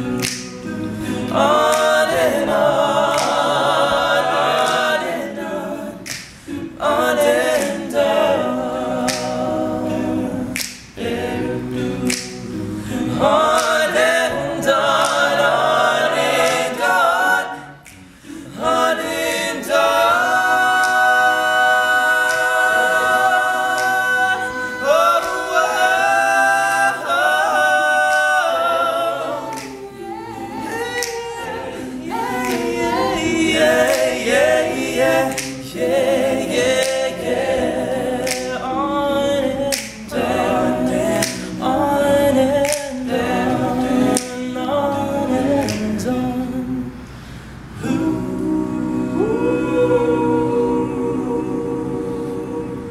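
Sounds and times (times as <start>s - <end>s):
male a cappella group singing: 0.0s - 52.9s.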